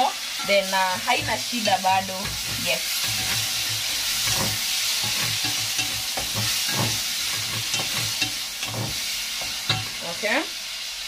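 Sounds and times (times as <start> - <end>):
vegetables sizzling in oil: 0.0 - 11.0
wooden spoon scraping a pot: 0.4 - 10.1.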